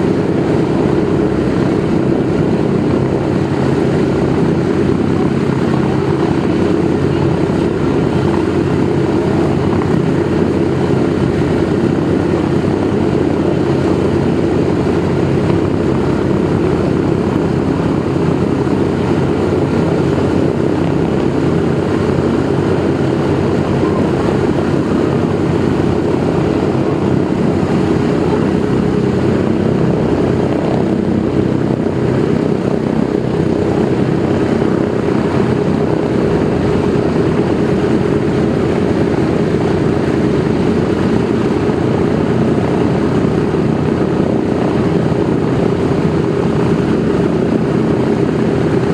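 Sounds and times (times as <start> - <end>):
propeller plane engines droning: 0.0 - 48.9.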